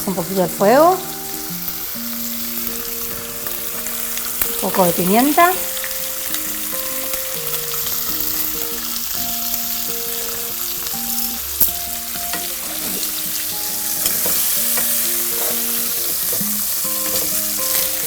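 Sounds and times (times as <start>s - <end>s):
chicken sizzling in hot oil: 0.0s - 18.0s
faint background tune: 0.0s - 18.0s.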